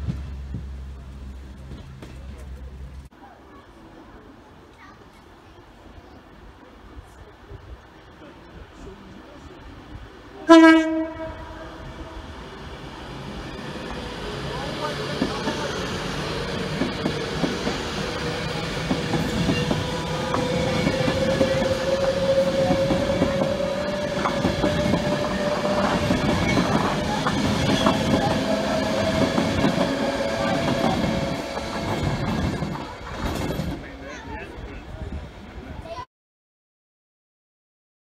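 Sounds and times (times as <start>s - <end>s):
train wheels rumbling on rails: 0.0s - 3.1s, 7.0s - 36.0s.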